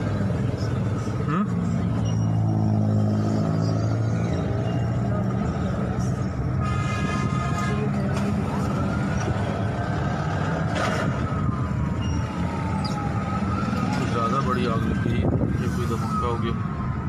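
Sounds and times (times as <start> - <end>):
emergency siren wailing: 0.0 - 17.0
low rumble of vehicles: 0.0 - 17.0.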